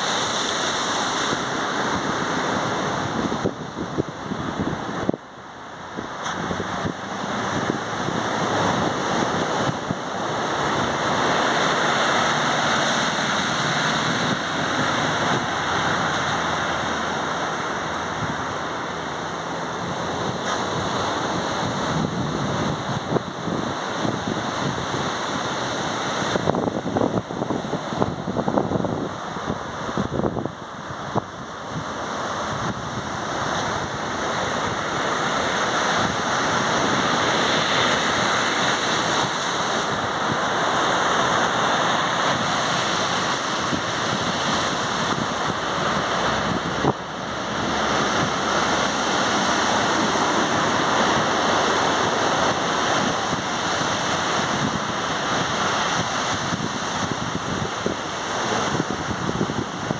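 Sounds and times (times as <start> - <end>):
sea surf: 0.0 - 59.9
wind on microphone: 0.0 - 59.9.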